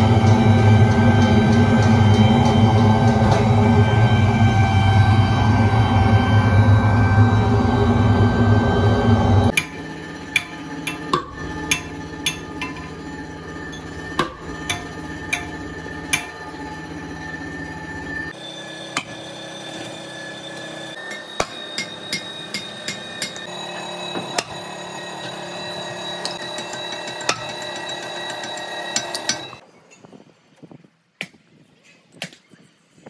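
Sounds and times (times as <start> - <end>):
steady background hum: 0.0 - 29.7.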